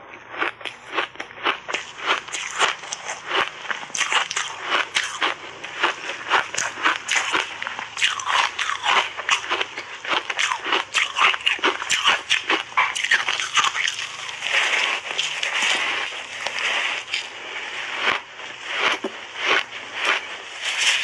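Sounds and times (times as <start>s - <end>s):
ice crunching between teeth: 0.3s - 21.0s.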